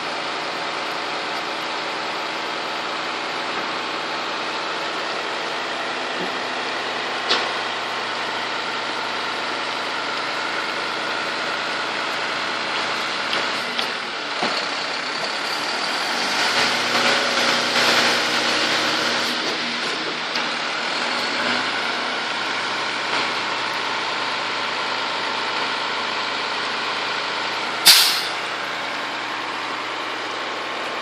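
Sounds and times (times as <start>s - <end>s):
garbage truck engine running: 0.0s - 31.0s.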